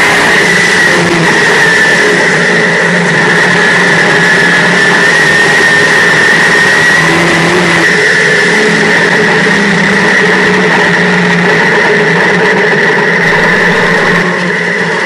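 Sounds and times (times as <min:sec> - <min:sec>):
race car engine under load: 0:00.0 - 0:15.0
steady high whine: 0:00.0 - 0:15.0.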